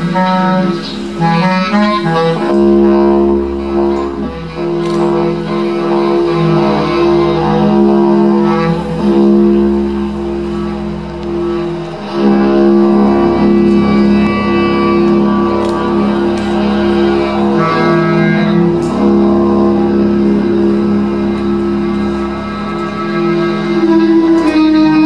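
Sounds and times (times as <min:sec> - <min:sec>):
higher shifting notes: 0:00.0 - 0:25.0
sustained drone tones: 0:00.0 - 0:25.0.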